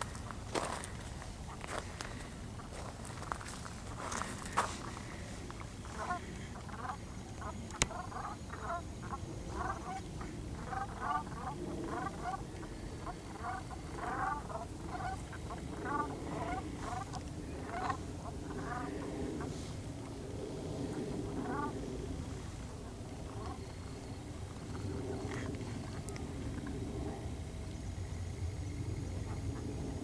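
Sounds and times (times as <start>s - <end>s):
geese honking: 0.0s - 19.7s, 20.9s - 26.2s.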